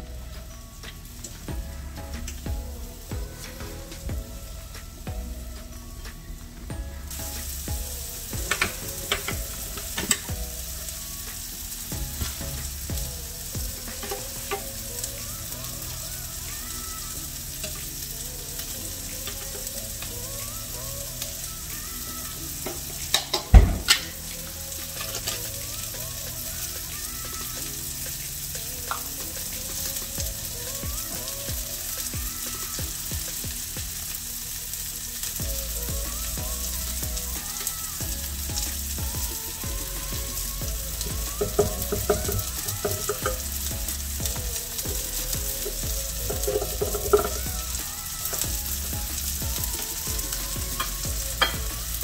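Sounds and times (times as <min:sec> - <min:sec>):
food sizzling: 0:00.0 - 0:52.0.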